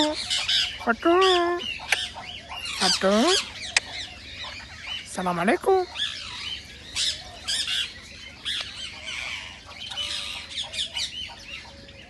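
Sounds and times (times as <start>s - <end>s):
parrot chirping and squawking: 0.0s - 11.7s.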